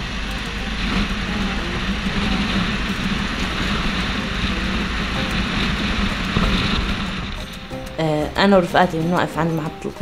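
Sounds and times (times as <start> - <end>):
rushing air: 0.0 - 8.4
van engine and road noise: 0.0 - 10.0.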